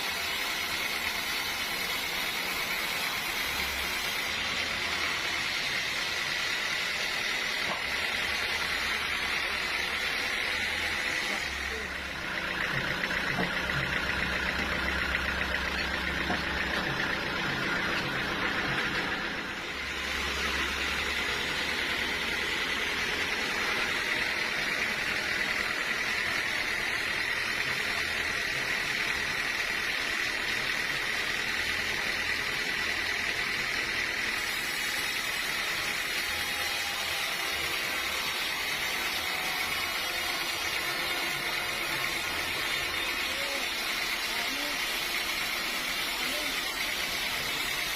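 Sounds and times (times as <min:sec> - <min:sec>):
sawmill machinery whining: 0:00.0 - 0:47.9.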